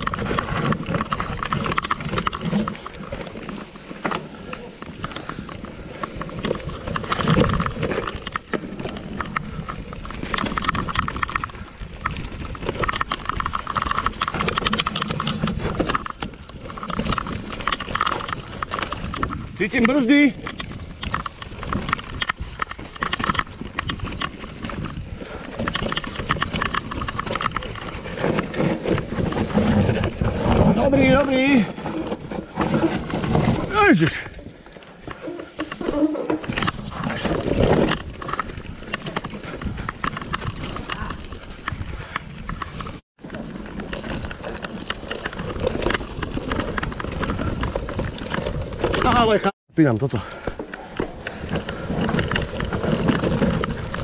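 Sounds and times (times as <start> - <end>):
bike clicking and clattering: 0.0 - 49.5, 50.1 - 54.0
tyres rumbling on dirt: 0.0 - 54.0.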